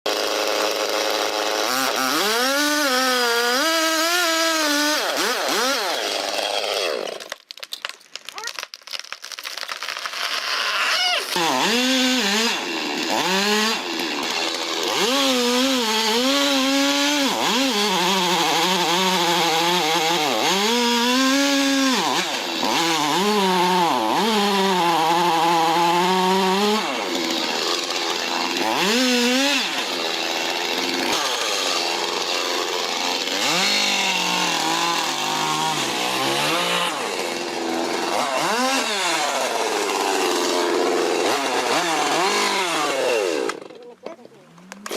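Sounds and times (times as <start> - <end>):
chainsaw cutting into tree: 0.1 - 44.9.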